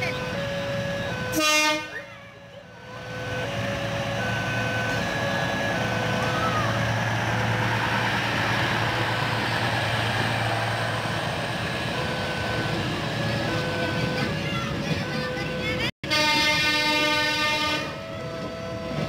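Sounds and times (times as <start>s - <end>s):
level crossing warning alarm: 0.0s - 15.8s
train passing with rumble: 0.0s - 19.0s.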